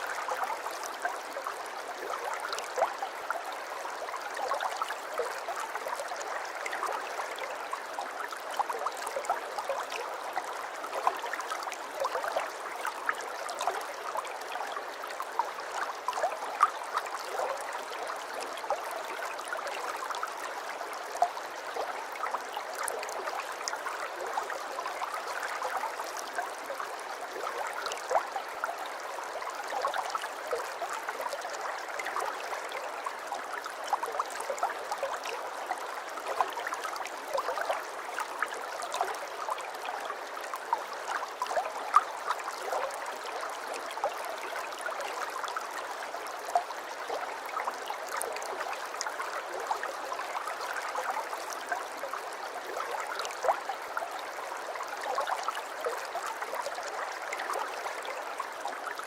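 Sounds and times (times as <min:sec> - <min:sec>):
aquarium water trickling and bubbling: 0:00.0 - 0:59.0.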